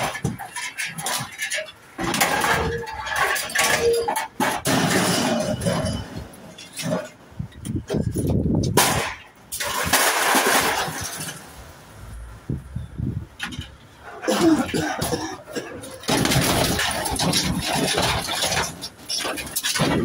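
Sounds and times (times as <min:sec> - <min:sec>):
scrap metal clanking on van floor: 0:00.0 - 0:11.6, 0:13.4 - 0:20.0.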